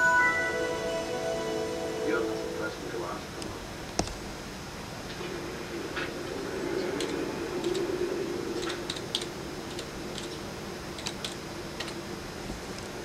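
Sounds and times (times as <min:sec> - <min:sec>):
fan and air conditioner hum: 0:00.0 - 0:13.0.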